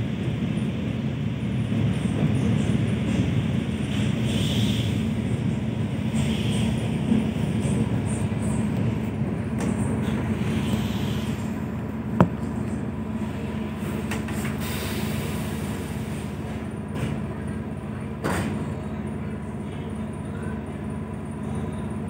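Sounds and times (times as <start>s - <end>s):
train rumble and hum: 0.0s - 22.0s.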